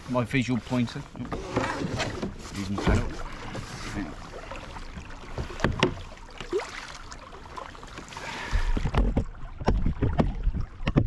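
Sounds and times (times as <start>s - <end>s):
water sloshing against hull: 0.0s - 11.0s.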